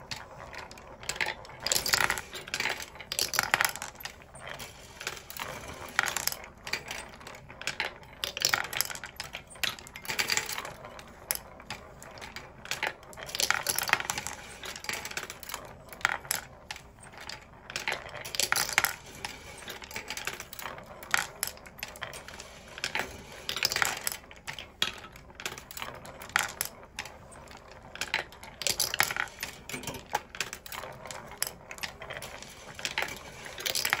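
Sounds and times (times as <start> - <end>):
glass marbles clicking and clattering: 0.0 - 34.0.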